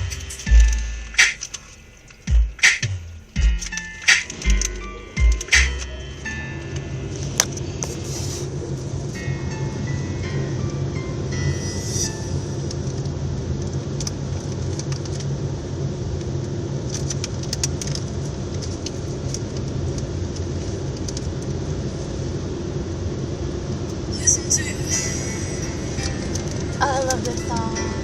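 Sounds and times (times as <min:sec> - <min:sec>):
car cabin low rumble: 0:00.0 - 0:28.0.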